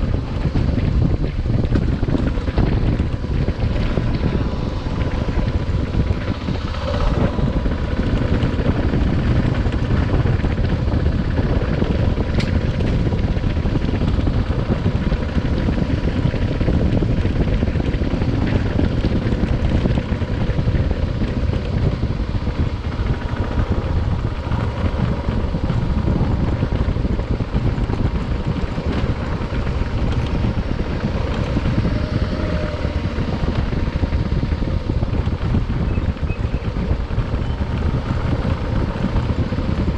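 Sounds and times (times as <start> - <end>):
motorcycle engine: 0.0 - 39.9
wind rush on microphone: 0.0 - 39.9.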